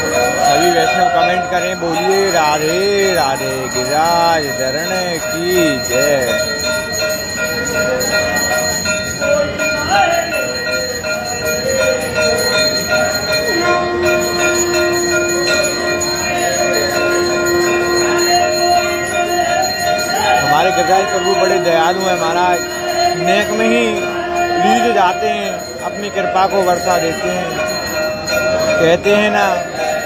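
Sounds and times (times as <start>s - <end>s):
temple bells ringing: 0.0s - 30.0s.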